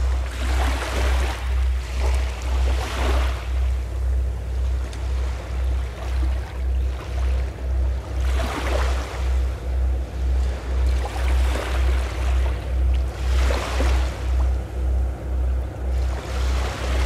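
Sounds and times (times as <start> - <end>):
deep pulsing throb: 0.0 - 17.0
sea waves washing in: 0.0 - 17.0.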